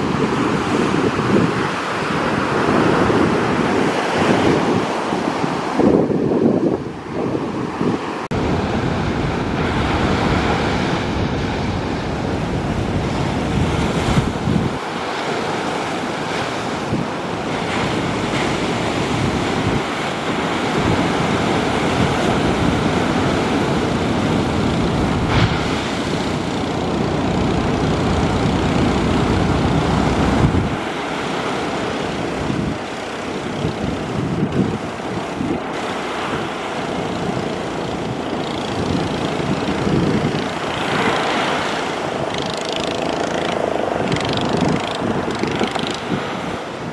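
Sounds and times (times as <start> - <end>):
ocean surf breaking: 0.0 - 46.9
wind rumbling on microphone: 0.0 - 46.9.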